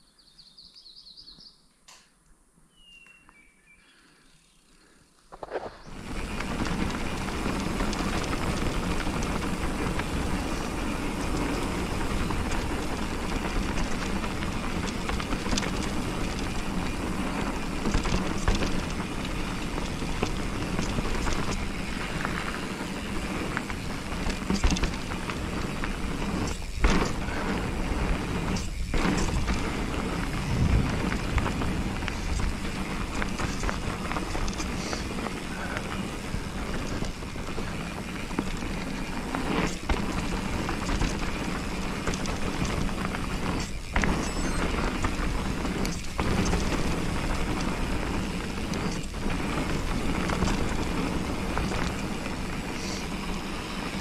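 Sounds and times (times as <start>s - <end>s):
tyres on dirt: 5.2s - 54.0s
bike rattles and knocks: 5.4s - 54.0s
wind buffeting microphone: 5.9s - 54.0s.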